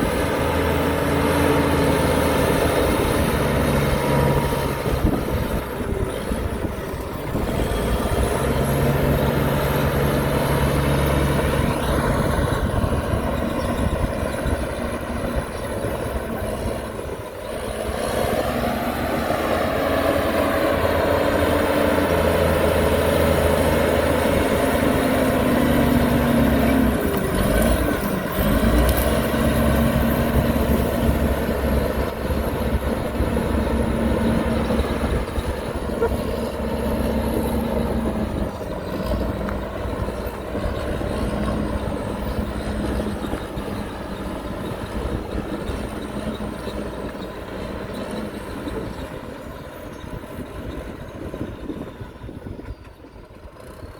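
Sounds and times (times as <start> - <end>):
heavy machinery diesel engines: 0.0 - 53.9.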